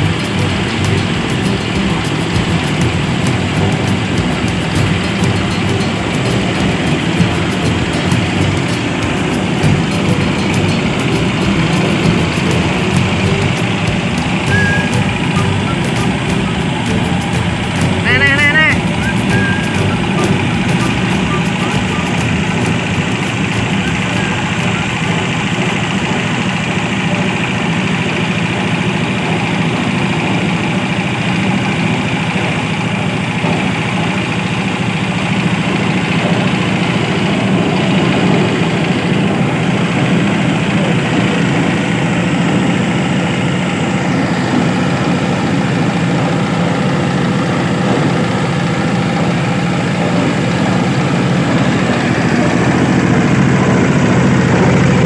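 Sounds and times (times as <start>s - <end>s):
machine engine droning: 0.0s - 55.0s.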